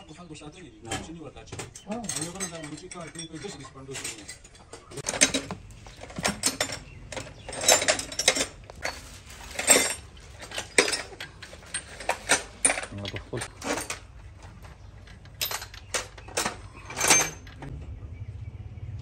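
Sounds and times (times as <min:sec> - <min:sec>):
metal tools clinking: 0:00.8 - 0:17.7.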